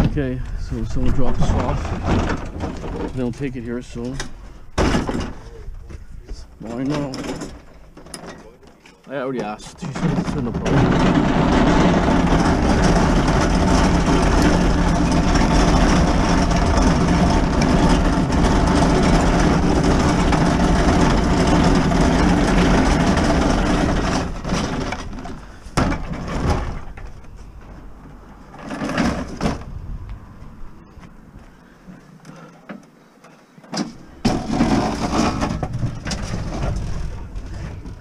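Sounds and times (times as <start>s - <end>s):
treadmill rolling over asphalt: 0.0s - 4.1s, 9.1s - 32.5s, 34.1s - 38.0s.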